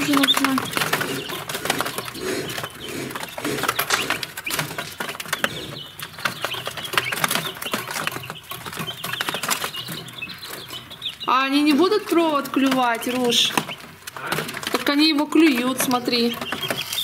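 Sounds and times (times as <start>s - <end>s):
chicks pecking floor taps: 0.0s - 17.0s
chicks peeping: 0.0s - 17.0s.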